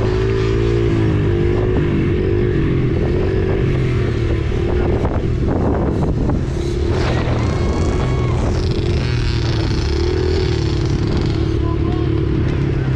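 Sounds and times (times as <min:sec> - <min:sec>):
motorbike engine revving: 0:00.0 - 0:12.9.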